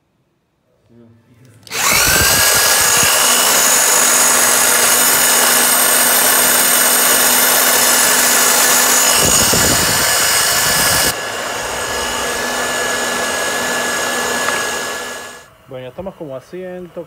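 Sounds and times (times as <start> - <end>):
power drill motor whine: 1.6 - 15.5
grain mill grinding malt: 1.7 - 15.4.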